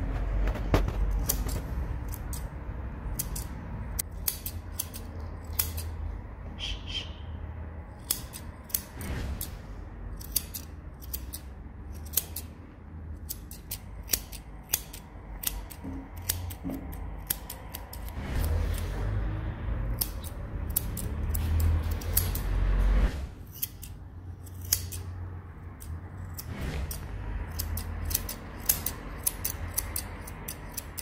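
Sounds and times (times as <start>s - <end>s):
scissors snipping fur: 0.8s - 6.1s, 7.9s - 9.5s, 10.1s - 19.0s, 19.9s - 22.6s, 23.4s - 31.0s.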